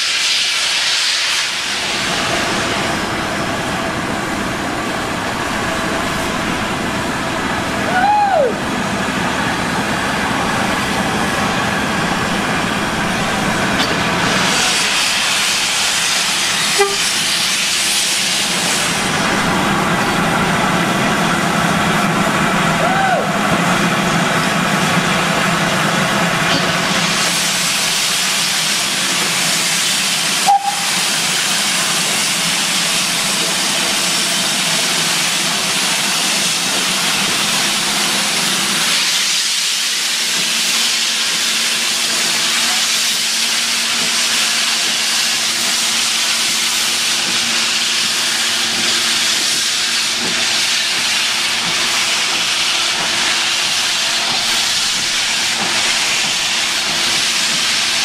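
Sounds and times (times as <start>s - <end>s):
steam locomotive hissing steam: 0.0s - 58.0s.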